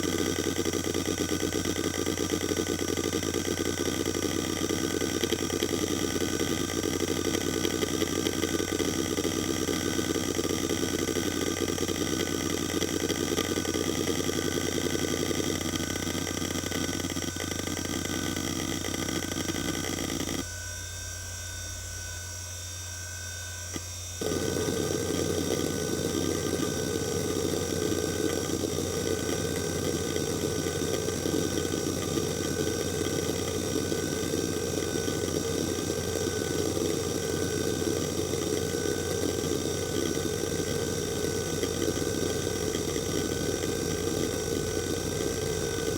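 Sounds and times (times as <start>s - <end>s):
hard drive seek chatter: 0.0s - 20.5s, 23.7s - 45.9s
hard drive hum and whine: 0.0s - 45.9s.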